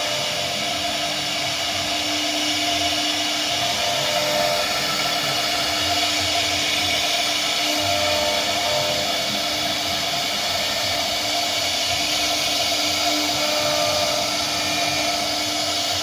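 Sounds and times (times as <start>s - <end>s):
cutting wood hiss: 0.0s - 16.0s
router motor whine: 0.0s - 16.0s.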